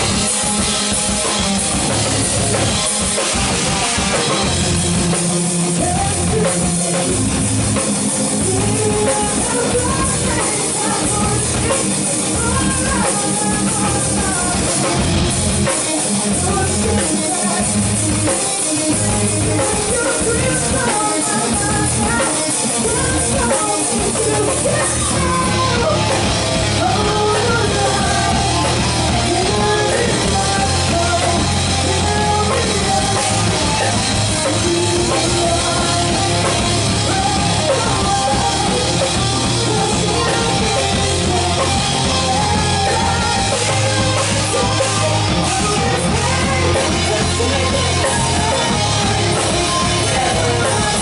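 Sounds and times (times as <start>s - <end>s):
live heavy metal band: 0.0s - 51.0s
woman singing lead vocal: 4.4s - 51.0s.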